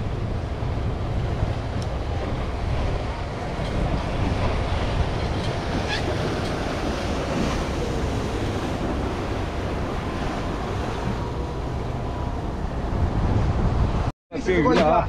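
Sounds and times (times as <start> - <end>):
sea waves against boat hull: 0.0 - 14.0
wind buffeting microphone: 0.0 - 15.0.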